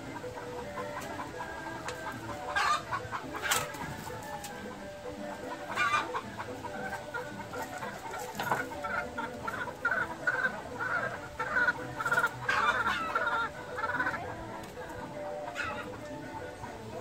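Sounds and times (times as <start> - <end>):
fowl clucking: 0.0 - 17.0.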